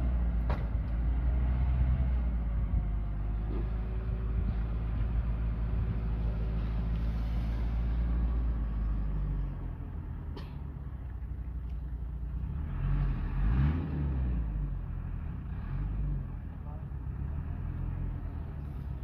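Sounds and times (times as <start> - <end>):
tractor engine running and revving: 0.0 - 19.0.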